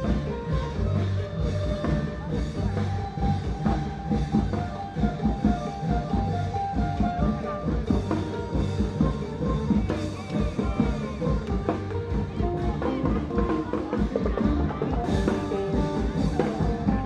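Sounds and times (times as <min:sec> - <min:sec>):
music with drum-kit beat: 0:00.0 - 0:17.0.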